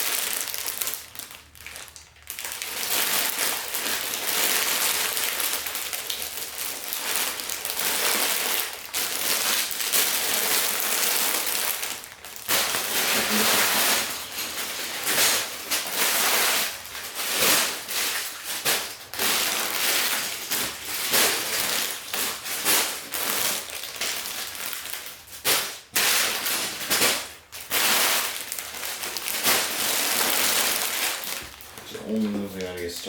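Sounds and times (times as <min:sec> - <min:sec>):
plastic bags crackling: 0:00.0 - 0:33.0
plastic pieces rustling and clattering: 0:00.0 - 0:33.0.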